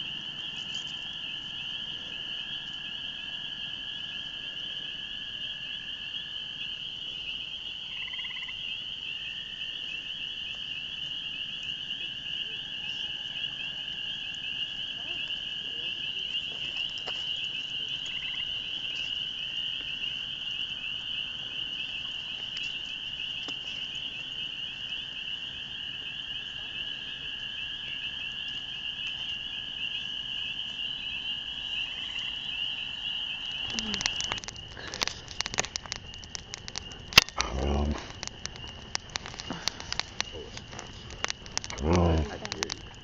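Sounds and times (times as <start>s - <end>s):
frog chorus trilling: 0.0s - 43.0s
lower-pitched frog chorus: 0.0s - 43.0s
wood fire crackling and popping: 6.6s - 43.0s.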